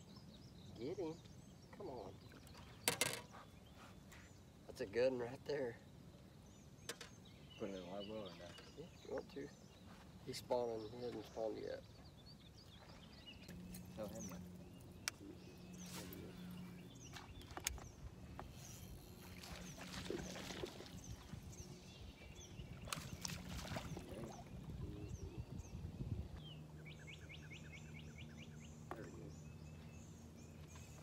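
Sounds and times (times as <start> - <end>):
steady low hum: 0.1 - 31.0.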